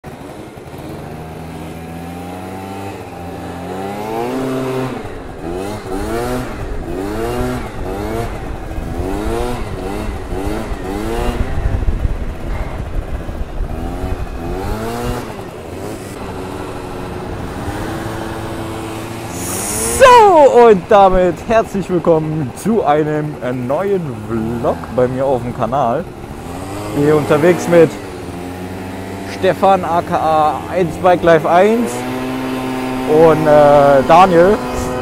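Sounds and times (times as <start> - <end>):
scooter engines revving: 0.0 - 35.0.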